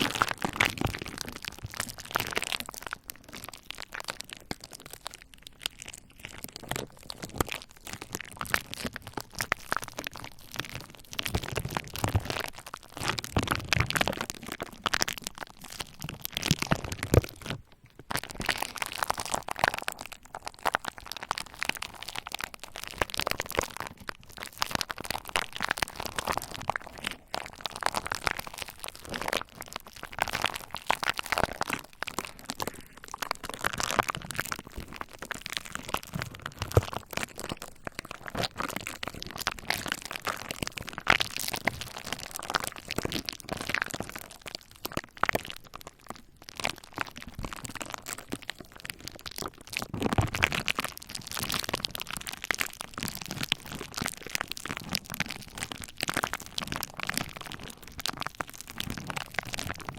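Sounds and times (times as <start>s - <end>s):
bubble wrap popping: 0.0s - 59.9s.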